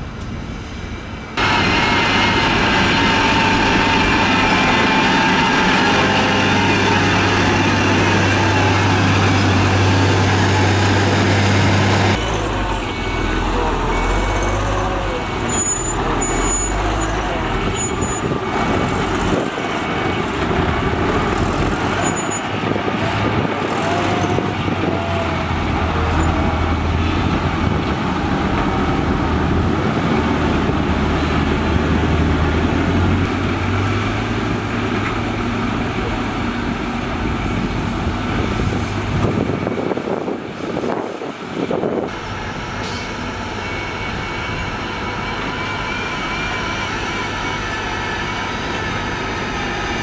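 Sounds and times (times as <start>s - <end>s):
deep diesel engine drone: 1.4s - 43.6s.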